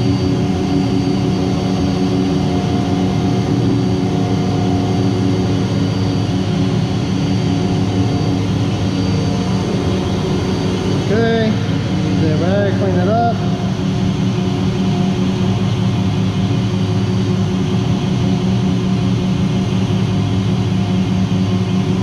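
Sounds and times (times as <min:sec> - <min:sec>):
machinery drone: 0:00.0 - 0:22.0.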